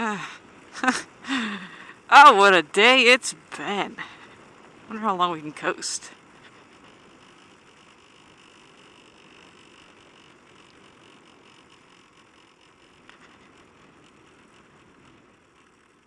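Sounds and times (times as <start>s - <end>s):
motorcycle rolling and wind noise: 1.9s - 16.0s.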